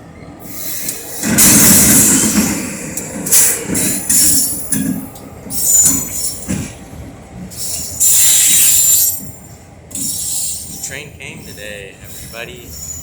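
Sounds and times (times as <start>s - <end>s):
freight train low rumble: 0.0s - 13.0s
train wheels squealing on rails: 0.0s - 13.0s.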